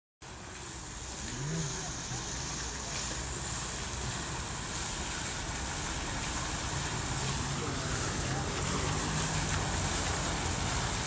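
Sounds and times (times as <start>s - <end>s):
fountain water splashing: 0.2s - 11.0s.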